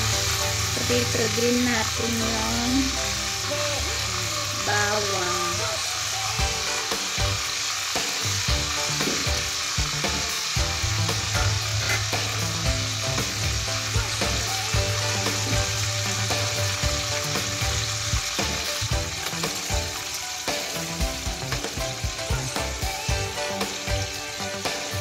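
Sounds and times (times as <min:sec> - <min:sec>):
metal tongs moving meat in pan: 0:00.0 - 0:22.3
meat sizzling in hot oil: 0:00.0 - 0:25.0.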